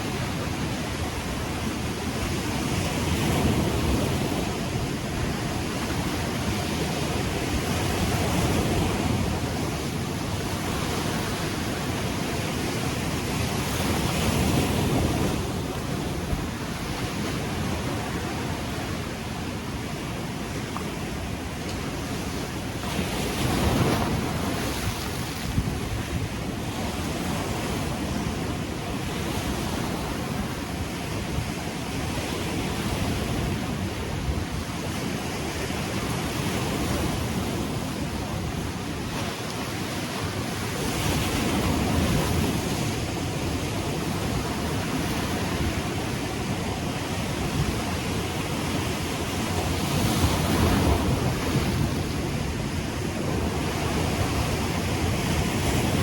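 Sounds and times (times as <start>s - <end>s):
ocean waves breaking: 0.0s - 56.0s
wind on microphone: 0.0s - 56.0s.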